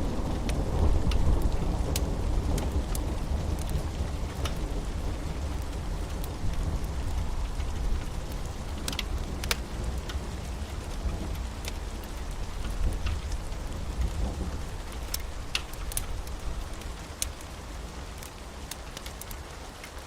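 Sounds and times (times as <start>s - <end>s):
continuous low rumble: 0.0s - 20.0s
steady rain: 0.0s - 20.0s
sharp drips and clicks: 0.3s - 20.0s.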